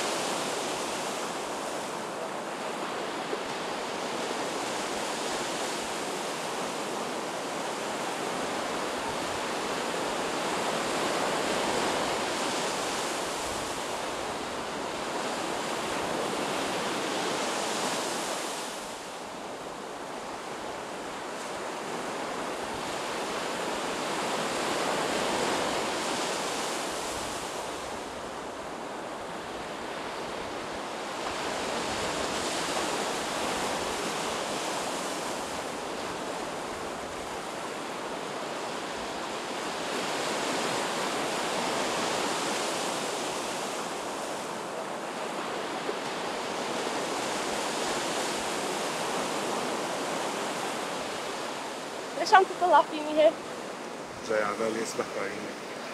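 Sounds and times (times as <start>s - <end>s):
waves washing over the shore: 0.0s - 55.9s.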